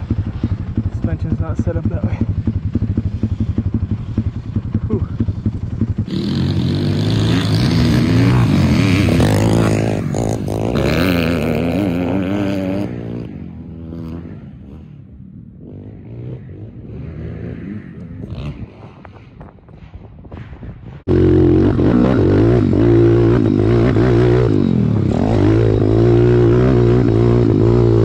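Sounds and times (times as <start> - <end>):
motorbike engine revving: 0.0 - 19.4, 21.0 - 28.0.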